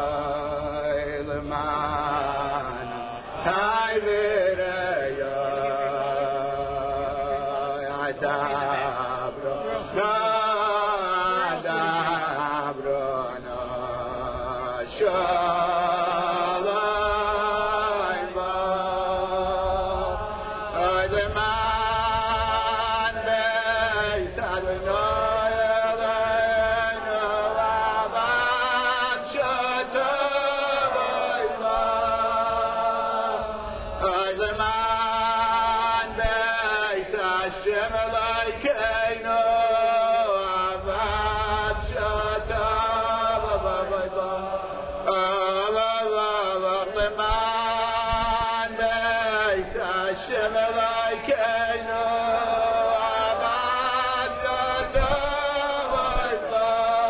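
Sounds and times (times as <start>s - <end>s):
person singing slow chant-like song: 0.0s - 57.0s.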